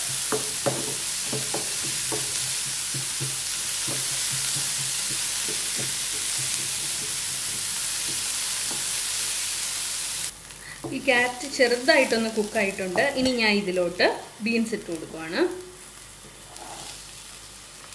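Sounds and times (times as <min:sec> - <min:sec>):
carrots sizzling in oil: 0:00.0 - 0:17.9.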